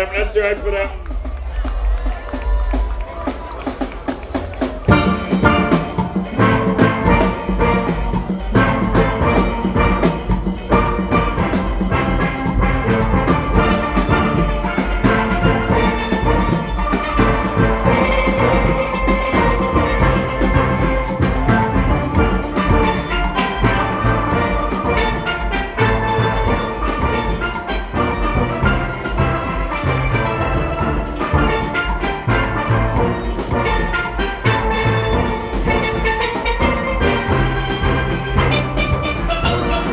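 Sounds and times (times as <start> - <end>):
drums and percussion beat: 0.0 - 39.9
steelpans playing melody: 4.3 - 39.9.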